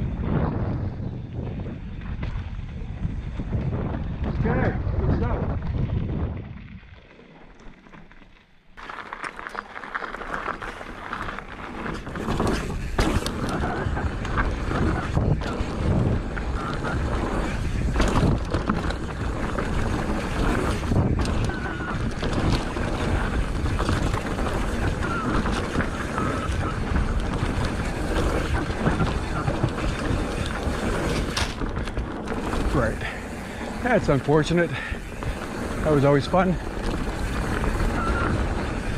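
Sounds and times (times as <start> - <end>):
wind buffeting microphone: 0.0 - 7.1, 11.4 - 38.9
bike knocking and rattling: 0.0 - 38.9
tyres rolling over dirt: 0.0 - 38.9.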